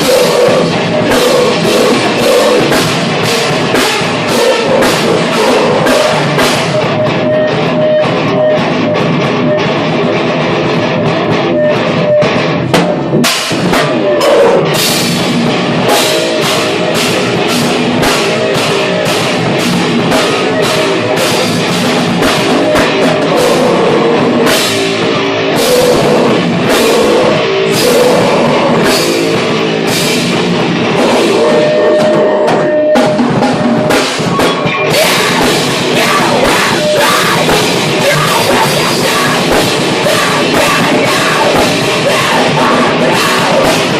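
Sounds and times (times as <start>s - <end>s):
heavy rock band playing: 0.0s - 43.9s.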